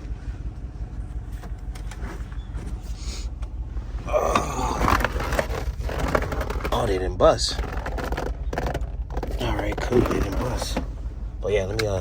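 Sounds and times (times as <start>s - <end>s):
car engine idling: 0.0s - 12.0s
rustling scraping handling noise: 0.8s - 11.1s.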